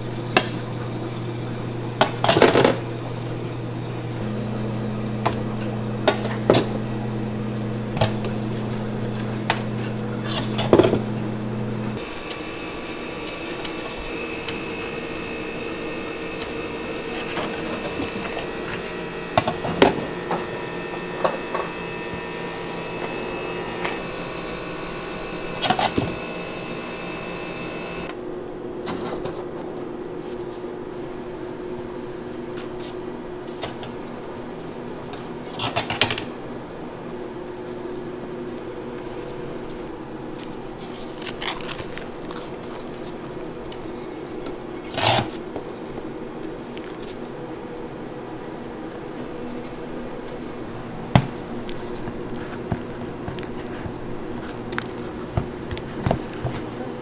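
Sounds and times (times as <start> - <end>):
steady machine hum: 0.0 - 28.8, 36.4 - 57.0.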